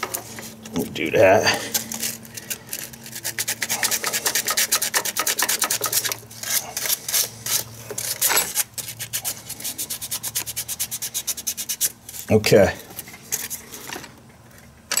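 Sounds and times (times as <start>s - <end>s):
sandpaper scraping metal: 1.6s - 13.8s.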